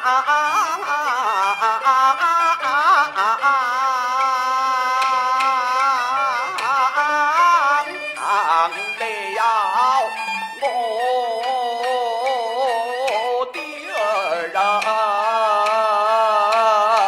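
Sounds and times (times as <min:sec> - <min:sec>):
fiddle accompaniment: 0:00.0 - 0:17.0
man singing opera: 0:00.0 - 0:17.0.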